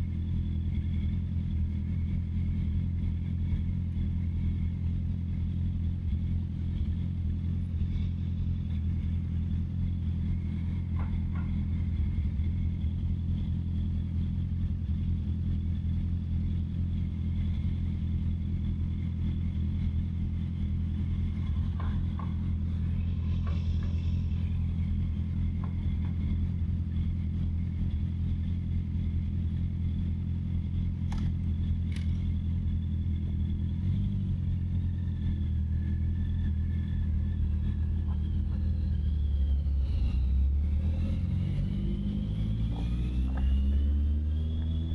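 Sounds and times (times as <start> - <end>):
motorcycle engine running steadily: 0.0 - 44.9.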